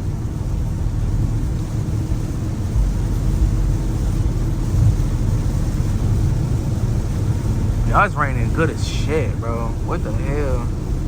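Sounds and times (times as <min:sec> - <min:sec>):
rain and water spray hiss: 0:00.0 - 0:11.0
tyre and drivetrain drone: 0:00.0 - 0:11.0.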